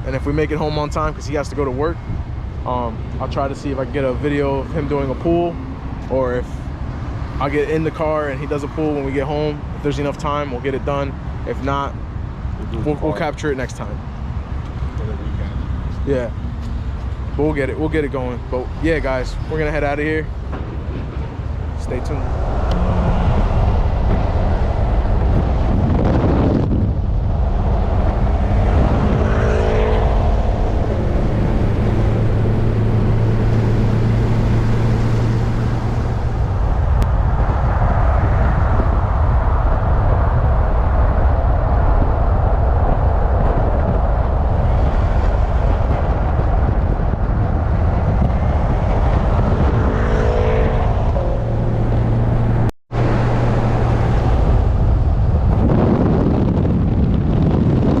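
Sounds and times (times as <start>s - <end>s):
low engine hum: 0.0s - 58.0s
road and wind noise: 0.0s - 58.0s.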